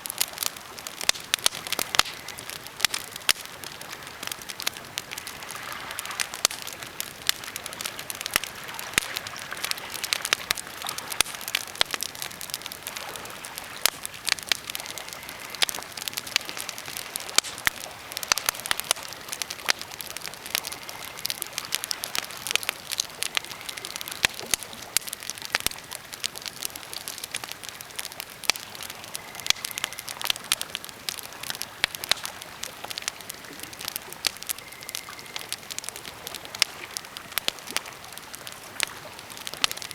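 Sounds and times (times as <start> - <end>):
campfire snaps and pops: 0.0 - 39.9
steady fire hiss: 0.0 - 39.9.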